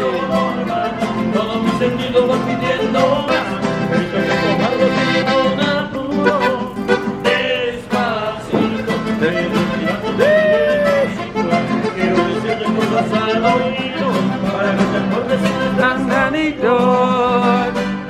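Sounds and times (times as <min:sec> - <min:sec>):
band playing upbeat tune: 0:00.0 - 0:15.8
person singing: 0:00.0 - 0:17.8.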